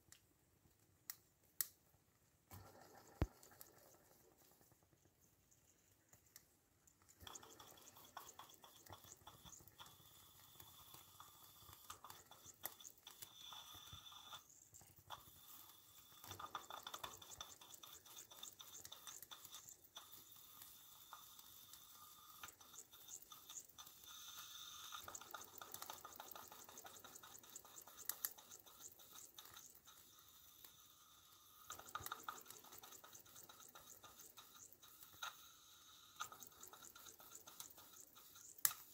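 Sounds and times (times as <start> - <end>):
boiler crackling and sizzling: 2.5 - 38.9.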